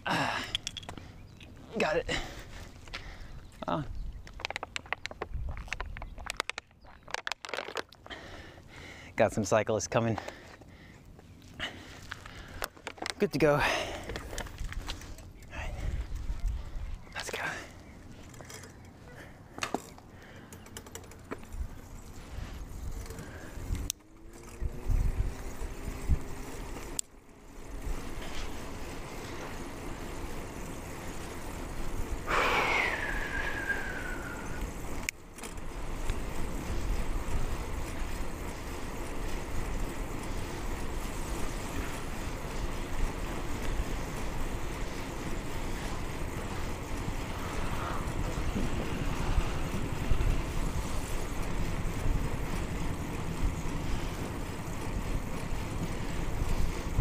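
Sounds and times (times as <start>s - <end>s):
bicycle road rumble: 0.0s - 57.0s.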